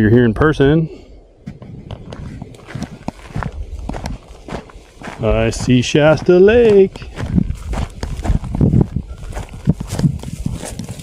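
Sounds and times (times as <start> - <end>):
footsteps of person walking: 1.4 - 11.0.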